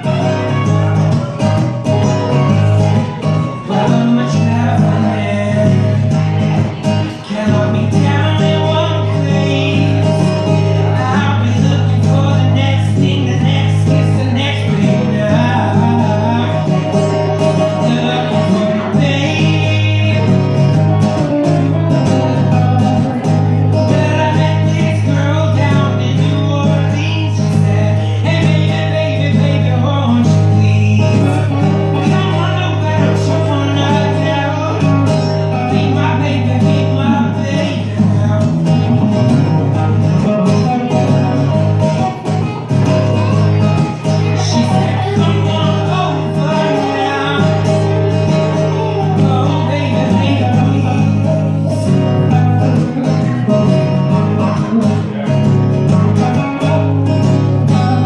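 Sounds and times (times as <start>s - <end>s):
acoustic guitar strumming: 0.0s - 58.0s
electric lead guitar: 0.0s - 58.0s.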